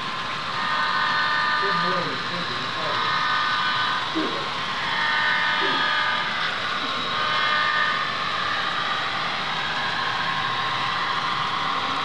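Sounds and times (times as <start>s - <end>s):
model train rushing noise: 0.0s - 12.0s.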